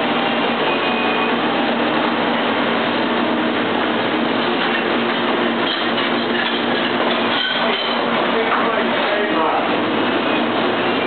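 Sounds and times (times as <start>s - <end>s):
machinery rumble and hum: 0.0s - 11.0s.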